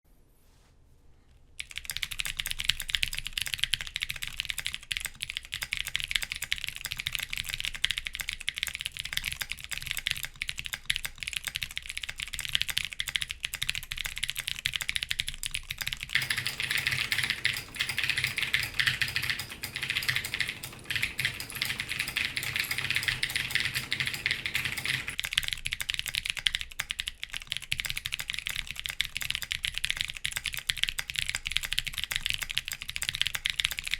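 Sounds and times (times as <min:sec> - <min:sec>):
fast typing on mechanical keyboard: 0:01.6 - 0:33.9.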